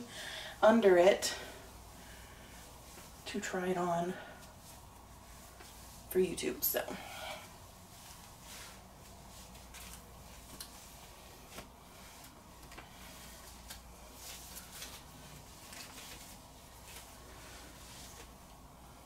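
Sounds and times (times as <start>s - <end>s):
clothing fabric rustling: 0.6s - 19.0s.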